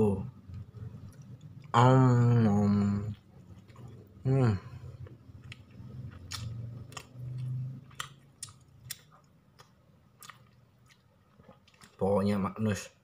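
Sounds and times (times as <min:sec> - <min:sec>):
low muffled hum: 0:00.0 - 0:13.0
person chewing food: 0:00.4 - 0:12.0.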